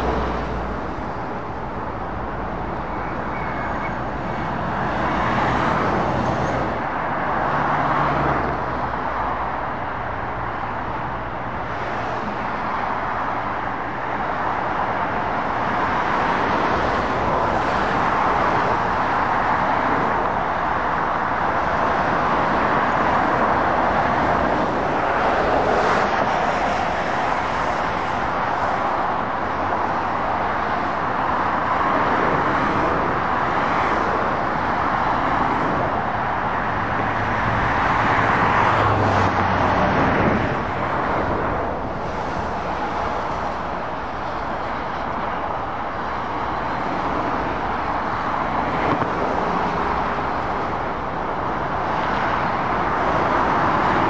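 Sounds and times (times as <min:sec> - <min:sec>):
traffic passing with tyre noise: 0:00.0 - 0:54.0.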